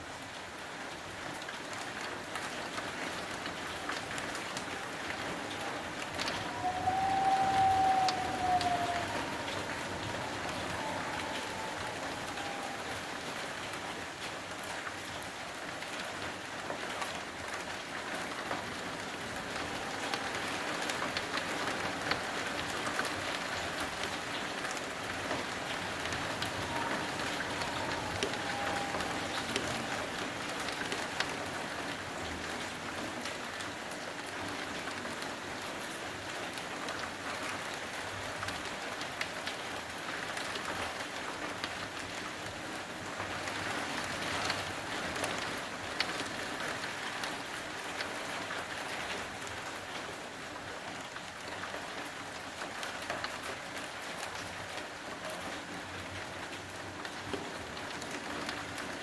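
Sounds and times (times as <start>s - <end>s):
heavy rain falling: 0.0s - 59.0s
raindrops ticking on surface: 0.0s - 59.0s.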